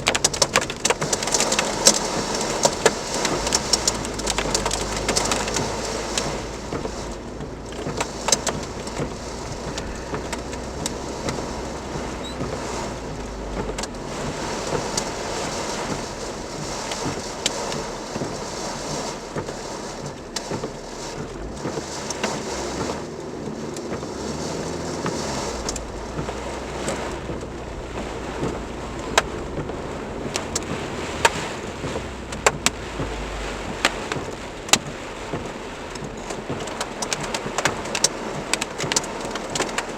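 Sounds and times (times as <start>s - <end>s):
hailstones clicking on hard surfaces: 0.0s - 39.9s
heavy rain downpour: 0.0s - 39.9s
low rumble: 1.7s - 19.0s, 19.9s - 34.6s.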